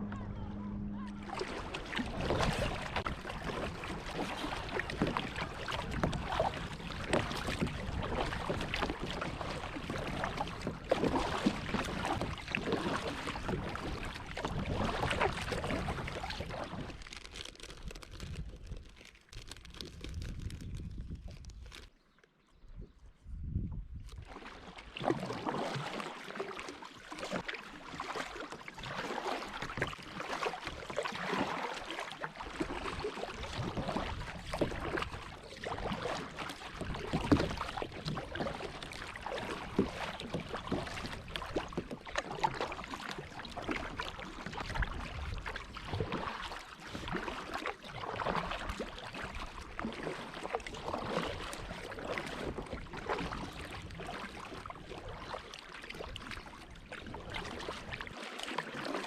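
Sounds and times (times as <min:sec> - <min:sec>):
water splashing around kayak: 0:00.0 - 0:59.0.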